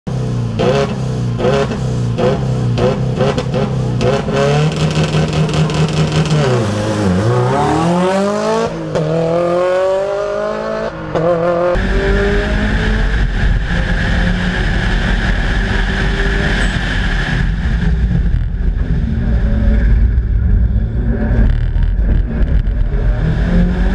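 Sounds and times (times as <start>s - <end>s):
rally car engine revving: 0.1s - 23.9s.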